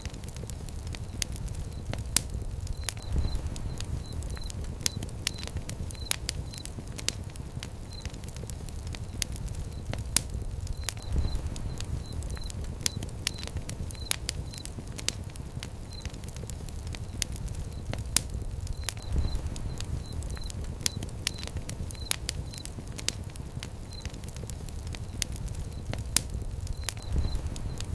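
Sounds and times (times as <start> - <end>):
fire crackling and popping: 0.0 - 27.9
low rumble of flames: 0.0 - 27.9.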